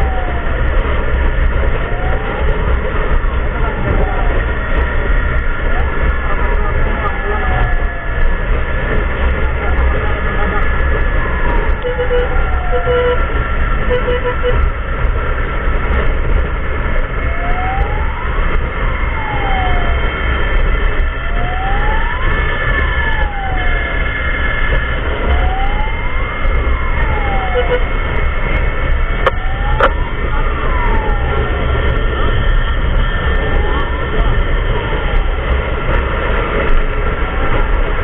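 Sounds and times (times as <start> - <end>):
emergency vehicle siren wailing: 0.0 - 38.0
low rumble of engine and wind: 0.0 - 38.0.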